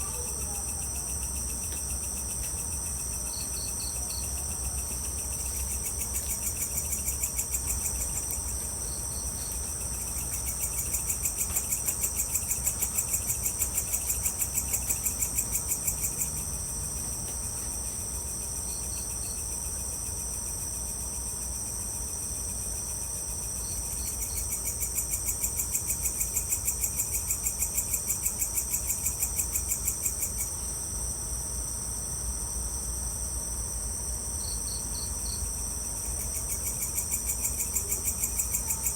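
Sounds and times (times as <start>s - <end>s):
insects chirping in high trill: 0.0s - 38.9s.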